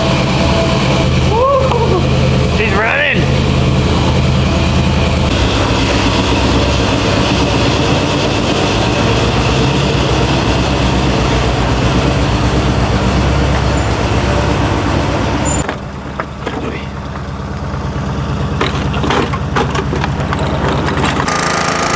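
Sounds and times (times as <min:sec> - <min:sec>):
motor hum: 0:00.0 - 0:21.9.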